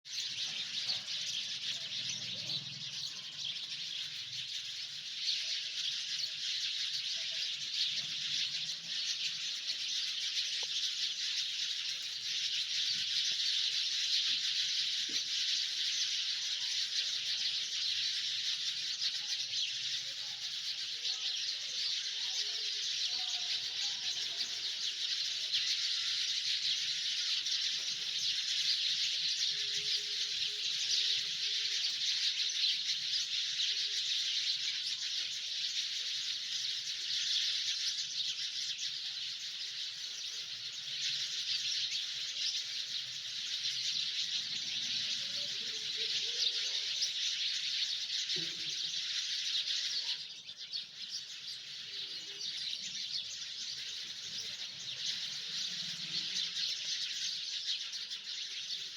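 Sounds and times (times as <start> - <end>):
many birds chirping: 0.0 - 58.9.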